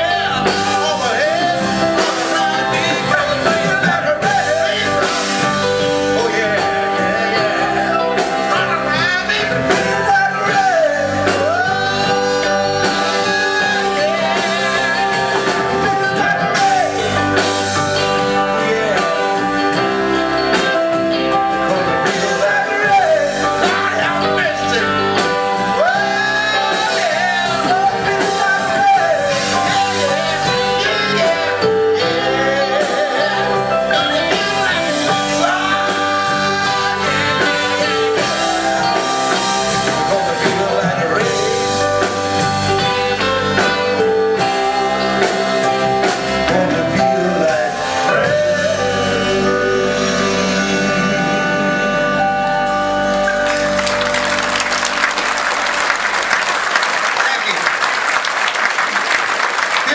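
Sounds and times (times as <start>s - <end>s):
man singing: 0.0s - 52.7s
live blues band playing: 0.0s - 59.9s.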